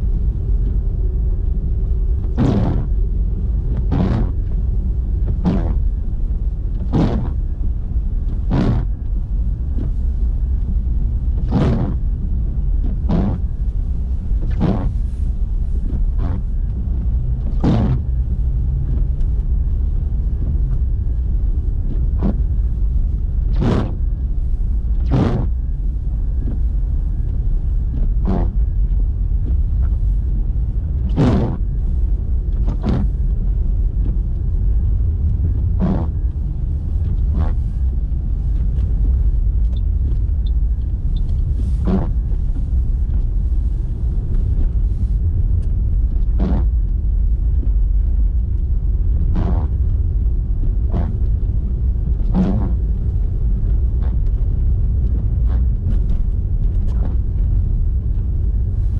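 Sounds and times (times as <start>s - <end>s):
low rumble of car driving: 0.0s - 58.9s.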